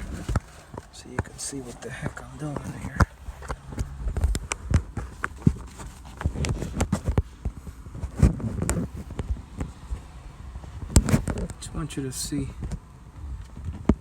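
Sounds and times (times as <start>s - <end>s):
low rumbling: 0.0s - 14.0s.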